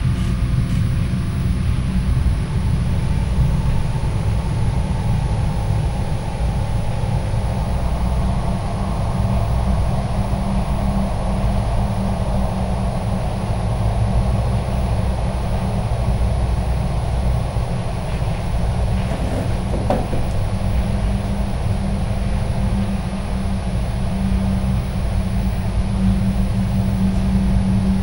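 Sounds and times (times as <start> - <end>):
low rumbling drone: 0.0 - 28.0.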